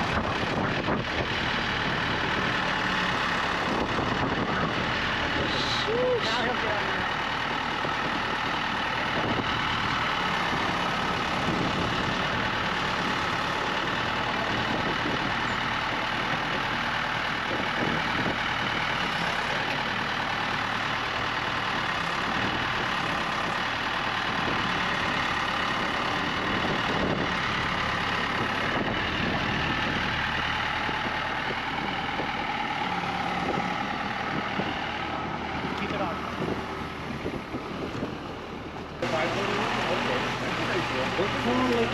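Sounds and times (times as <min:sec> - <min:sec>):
truck engine running: 0:00.0 - 0:41.9.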